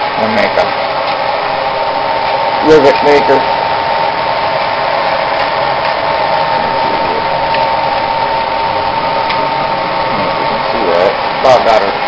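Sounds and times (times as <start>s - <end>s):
constant high whine: 0.0s - 12.0s
forge air blowing: 0.0s - 12.0s.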